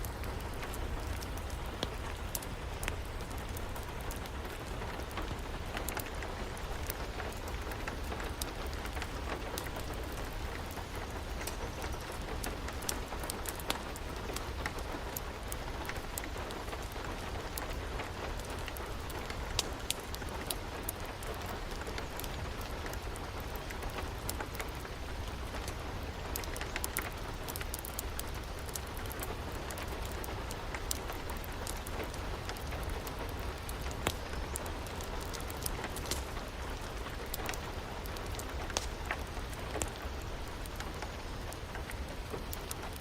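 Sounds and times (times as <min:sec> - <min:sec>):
steady rain: 0:00.0 - 0:43.0
wood fire crackling and popping: 0:00.0 - 0:43.0.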